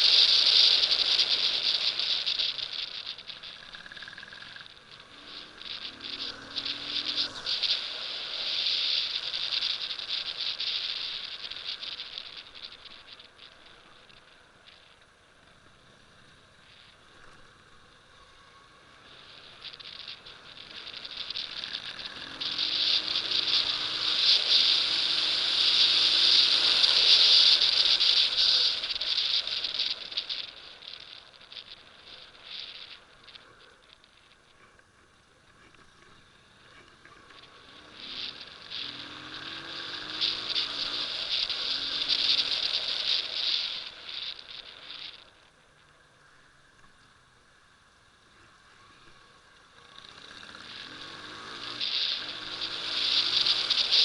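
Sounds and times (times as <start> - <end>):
motorcycle engine revving: 0.0 - 45.3, 48.1 - 54.0
wind and road noise: 0.0 - 54.0.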